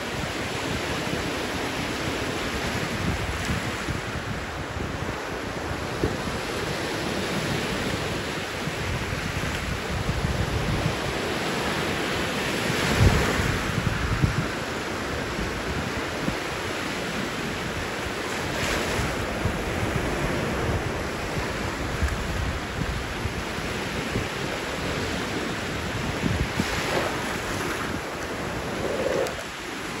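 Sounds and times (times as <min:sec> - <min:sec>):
wind buffeting microphone: 0:00.0 - 0:16.5, 0:17.5 - 0:30.0
small waves breaking on sand: 0:00.0 - 0:30.0.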